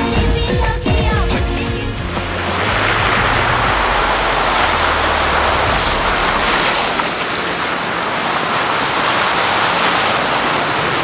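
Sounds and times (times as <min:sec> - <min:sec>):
tyres splashing through water: 0:01.4 - 0:11.0
creek water rushing: 0:01.6 - 0:11.0.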